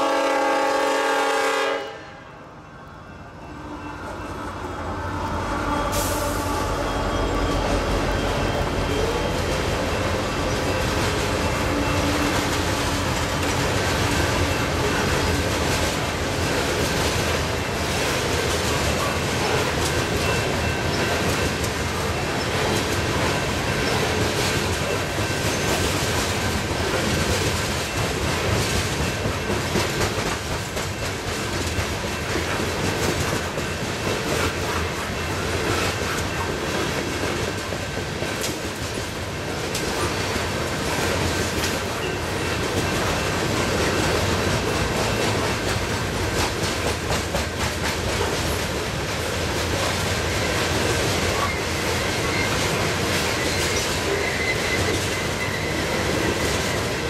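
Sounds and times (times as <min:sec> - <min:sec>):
train wheels rumbling on rails: 0:03.5 - 0:57.0.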